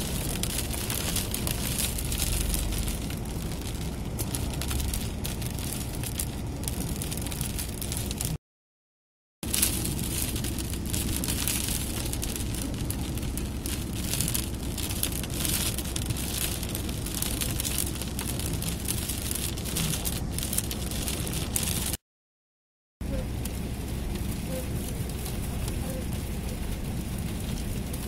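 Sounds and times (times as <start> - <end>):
heavy rain beating on vehicle: 0.0 - 8.4, 9.4 - 22.0, 23.0 - 28.0
storm wind: 0.0 - 8.4, 9.4 - 22.0, 23.0 - 28.0.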